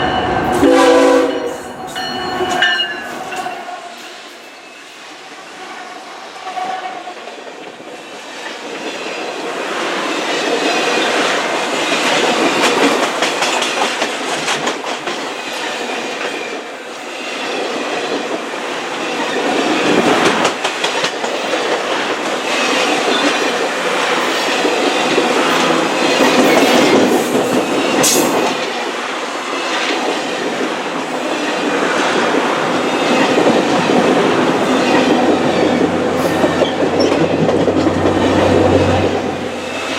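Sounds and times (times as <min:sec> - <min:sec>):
train wheels clicking over rails: 0:07.2 - 0:39.9.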